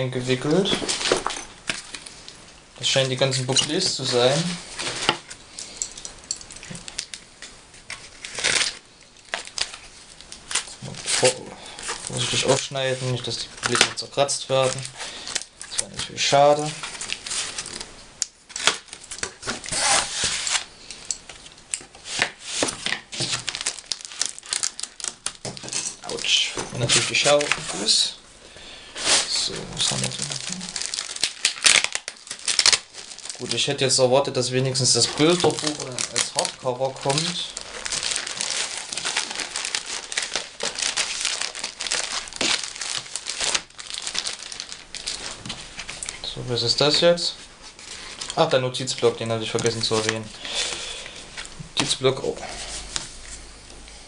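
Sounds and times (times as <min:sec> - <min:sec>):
plastic packaging crinkling: 0:00.0 - 0:28.2, 0:28.9 - 0:53.4
cardboard and paper rustling: 0:00.4 - 0:02.1, 0:07.8 - 0:17.9, 0:18.5 - 0:20.7, 0:21.3 - 0:28.0, 0:29.0 - 0:53.4.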